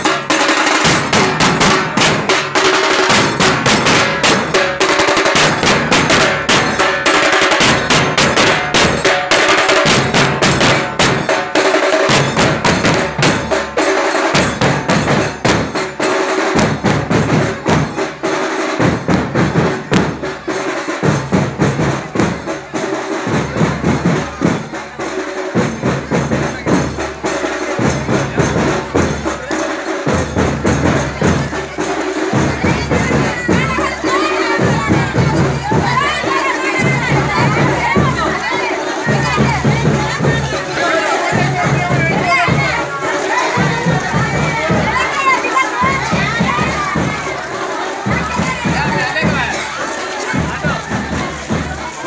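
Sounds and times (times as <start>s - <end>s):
percussion music: 0.0s - 52.0s.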